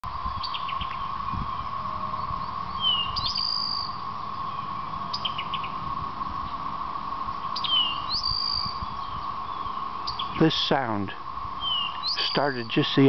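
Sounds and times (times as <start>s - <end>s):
songbirds whistling: 0.0s - 6.6s, 7.3s - 10.5s, 11.5s - 13.0s
cicadas droning: 0.0s - 13.0s.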